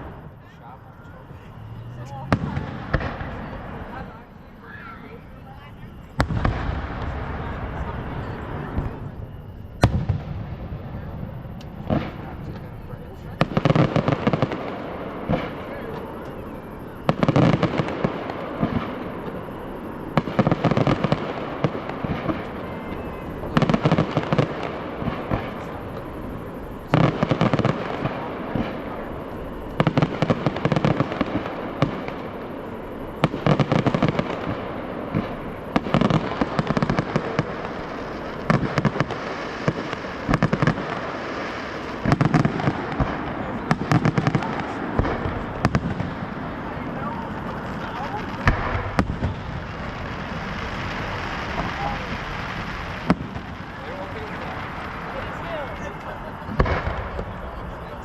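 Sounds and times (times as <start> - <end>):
firework crackling: 0.0 - 58.0
firework shells booming: 1.2 - 4.4, 5.8 - 58.0.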